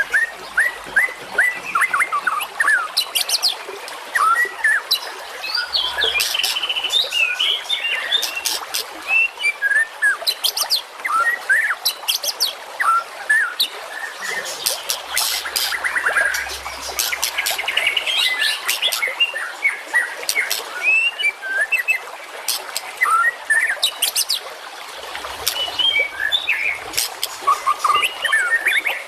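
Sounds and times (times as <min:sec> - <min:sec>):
songbirds chirping and whistling: 0:00.0 - 0:24.4, 0:25.1 - 0:29.0.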